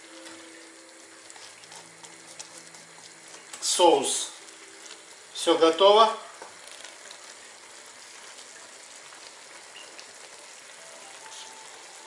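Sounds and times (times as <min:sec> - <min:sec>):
stew sizzling in a pot: 0:00.0 - 0:12.0.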